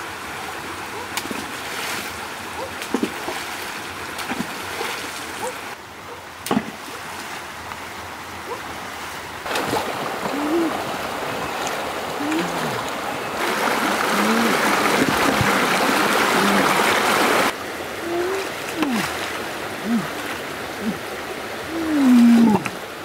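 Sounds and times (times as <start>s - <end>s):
stream rushing over stones: 0.0s - 23.0s.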